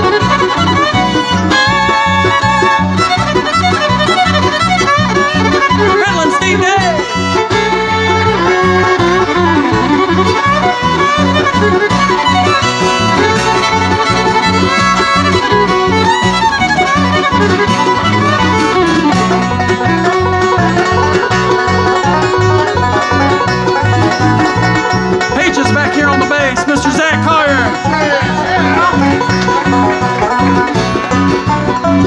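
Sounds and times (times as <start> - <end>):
bluegrass band playing: 0.0 - 32.0
fiddle lead: 0.0 - 32.0.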